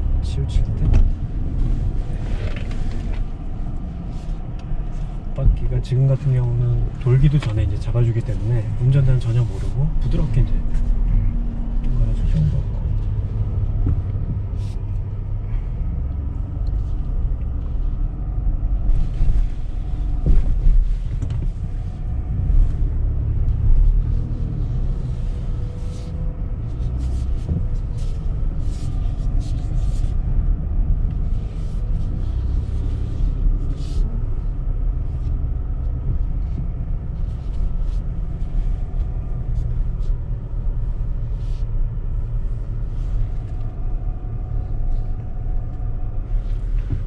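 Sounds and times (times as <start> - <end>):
truck engine rumble in cabin: 0.0 - 47.0.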